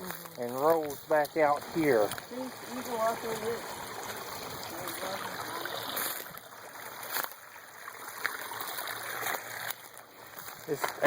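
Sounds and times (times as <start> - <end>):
stream flowing and trickling: 0.0 - 11.0.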